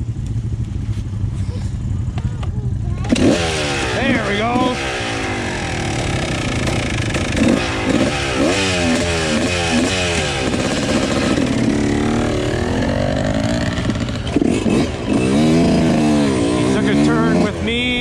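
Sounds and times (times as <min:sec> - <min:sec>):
dirt bike engine revving: 0:03.0 - 0:18.0.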